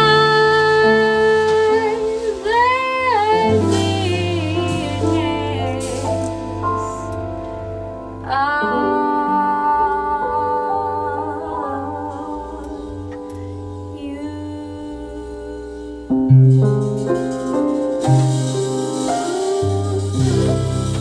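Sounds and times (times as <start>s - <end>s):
cymbals: 0.0s - 8.7s, 11.6s - 21.0s
bass notes: 0.0s - 21.0s
piano: 0.0s - 21.0s.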